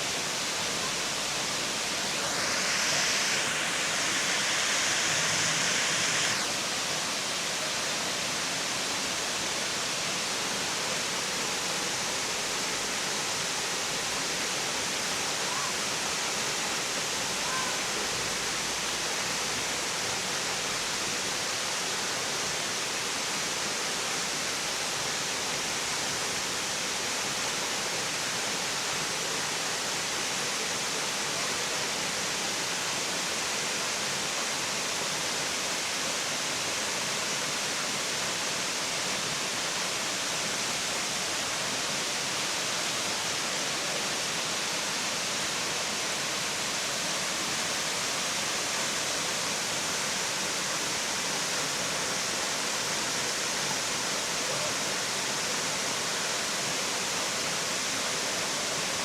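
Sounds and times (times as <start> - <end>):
high hiss: 0.0 - 59.0
waterfall rushing: 0.0 - 59.0.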